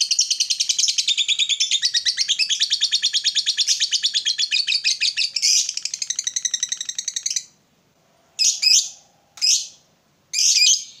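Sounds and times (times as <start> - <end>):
lovebird chattering trill: 0.0 - 7.6, 8.4 - 11.0.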